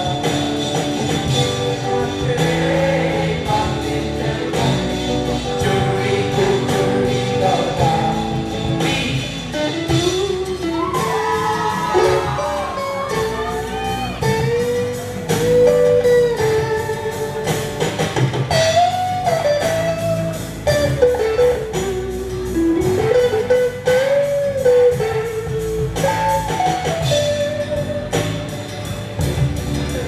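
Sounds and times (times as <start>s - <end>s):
bass guitar: 0.0s - 30.0s
drum kit: 0.0s - 30.0s
electric lead guitar melody: 0.0s - 30.0s.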